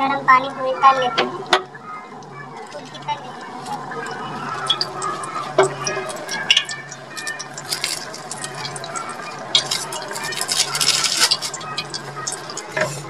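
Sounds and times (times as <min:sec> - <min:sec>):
low steady hum: 0:00.0 - 0:13.0
curry bubbling in a pot: 0:02.1 - 0:13.0.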